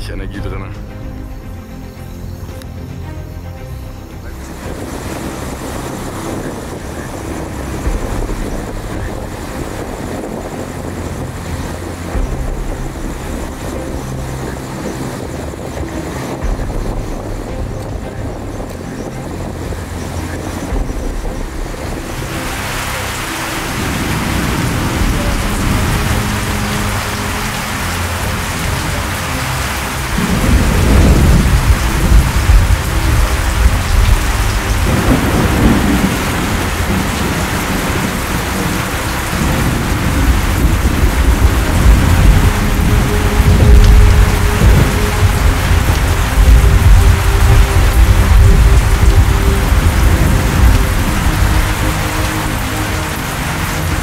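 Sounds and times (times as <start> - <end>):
heavy rain pouring: 0.0 - 54.0
rolling thunder: 4.6 - 54.0.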